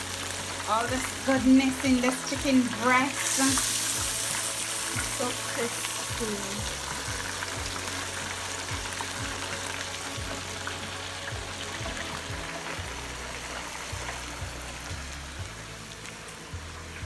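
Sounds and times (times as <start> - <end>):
background music with bass: 0.0 - 17.0
oil sizzling in deep fryer: 0.0 - 17.0.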